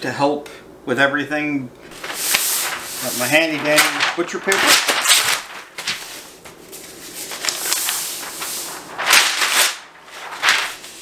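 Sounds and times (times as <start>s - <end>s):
paper rustling and crinkling: 1.9s - 11.0s
paper swishes: 1.9s - 11.0s.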